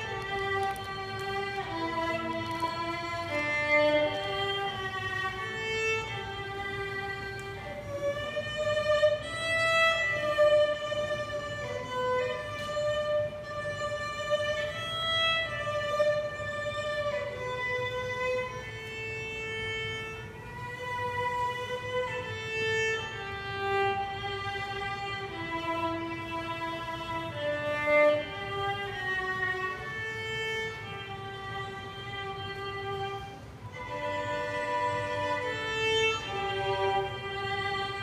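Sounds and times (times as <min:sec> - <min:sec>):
solo violin slow melody: 0:00.0 - 0:38.0.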